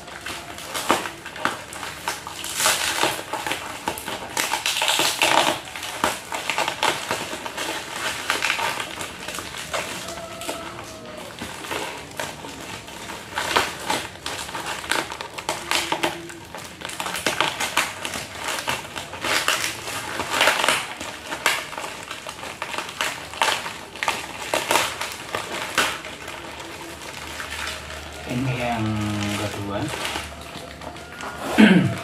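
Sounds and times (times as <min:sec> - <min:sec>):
plastic packaging crinkling: 0:00.0 - 0:32.0.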